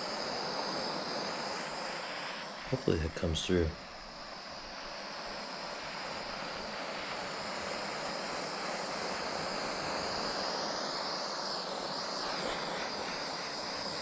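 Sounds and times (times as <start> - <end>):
gas torch hissing: 0.0 - 14.0.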